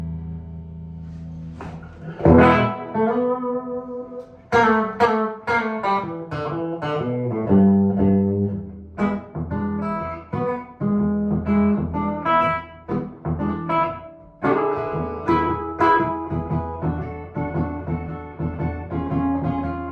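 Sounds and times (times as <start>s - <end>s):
electric guitar playing: 0.0s - 19.9s.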